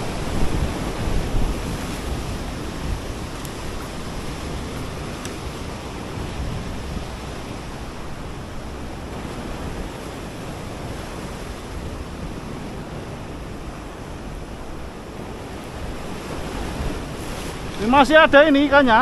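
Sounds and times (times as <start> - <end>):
ocean surf washing on beach: 0.0 - 19.0
wind rumbling on microphone: 0.0 - 19.0.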